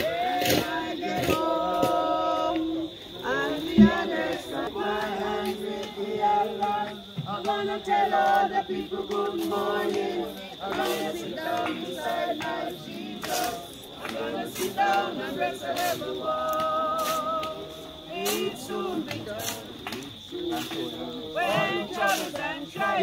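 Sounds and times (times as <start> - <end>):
group singing a hymn: 0.0 - 23.0.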